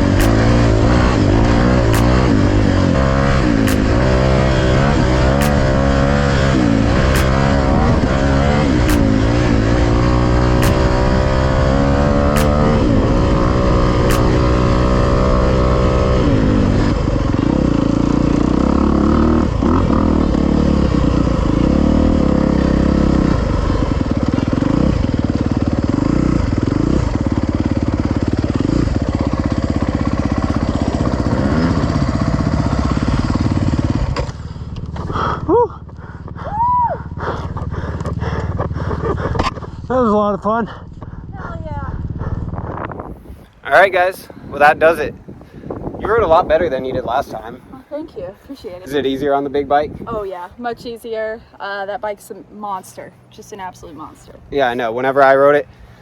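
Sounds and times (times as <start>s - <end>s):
dirt bike engine revving: 0.0s - 47.6s.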